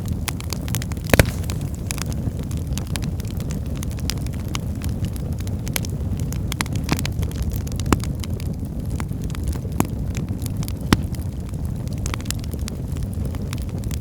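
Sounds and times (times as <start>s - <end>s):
fireplace crackles and pops: 0.0s - 14.0s
low rumble of flame: 0.0s - 14.0s.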